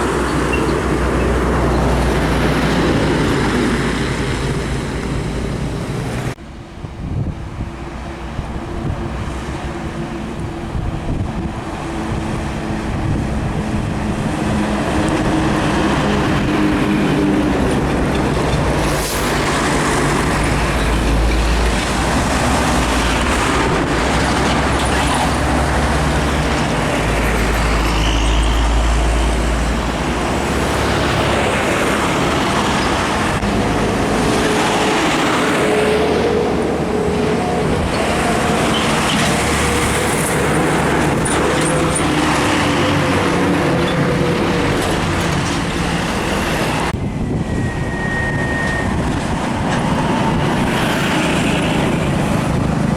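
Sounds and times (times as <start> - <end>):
heavy trucks passing: 0.0 - 52.9.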